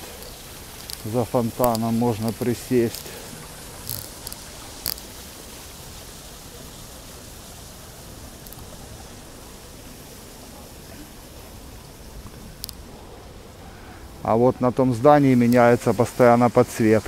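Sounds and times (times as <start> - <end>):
fountain water splashing: 0.0 - 17.0.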